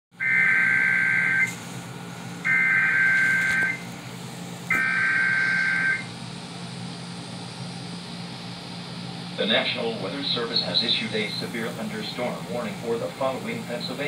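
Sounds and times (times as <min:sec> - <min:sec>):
low steady hum: 0:00.2 - 0:14.0.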